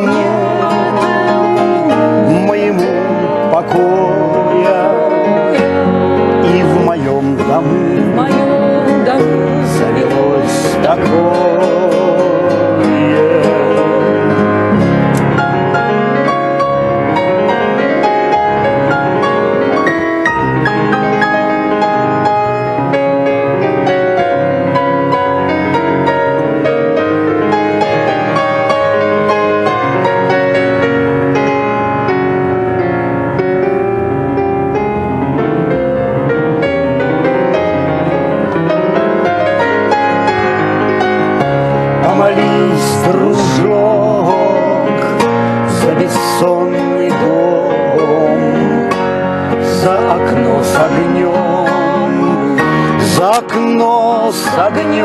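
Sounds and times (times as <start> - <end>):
piano melody and chords: 0.0 - 55.0.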